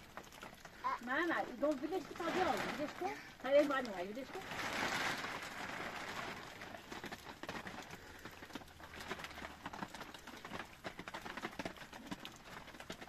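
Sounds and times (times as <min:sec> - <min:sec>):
plastic sheeting crinkling: 0:00.0 - 0:13.0.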